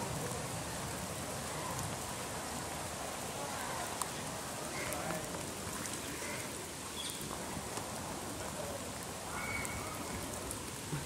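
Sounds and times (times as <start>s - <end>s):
heavy rain on water: 0.0s - 11.0s.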